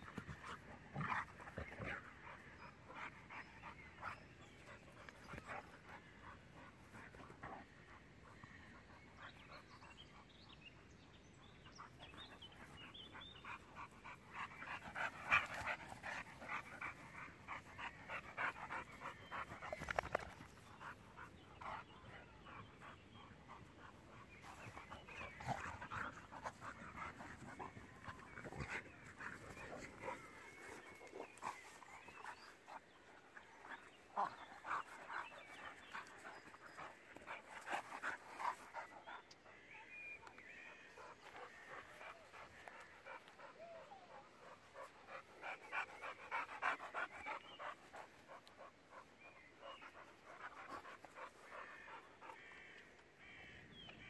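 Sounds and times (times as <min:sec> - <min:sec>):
dogs panting hard: 0:00.0 - 0:39.6, 0:41.0 - 0:52.6.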